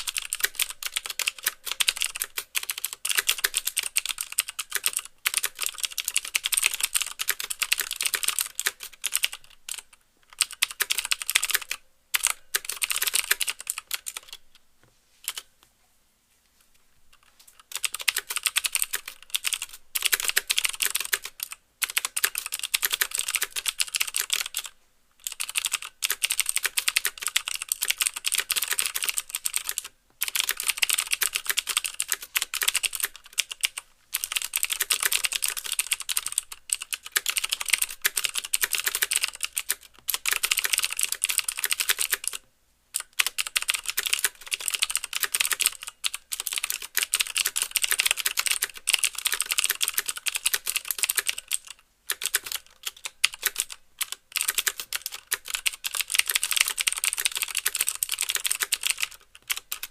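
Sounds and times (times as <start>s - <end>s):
mechanical keyboard typing: 0.0s - 14.5s, 15.3s - 15.5s, 17.1s - 42.4s, 43.0s - 59.9s.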